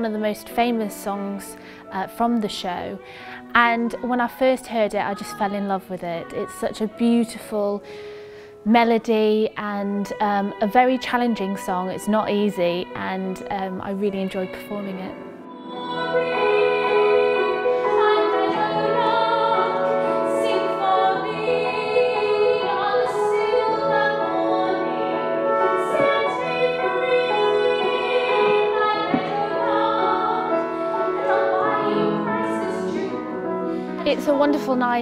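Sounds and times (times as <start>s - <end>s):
instrumental accompaniment: 0.0s - 35.0s
woman singing operatic ballad: 0.0s - 35.0s.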